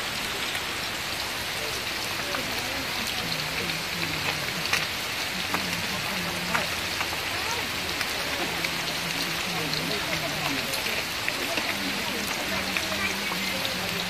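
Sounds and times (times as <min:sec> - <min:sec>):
fish sizzling in oil: 0:00.0 - 0:14.0
oil popping and spitting: 0:02.0 - 0:14.0.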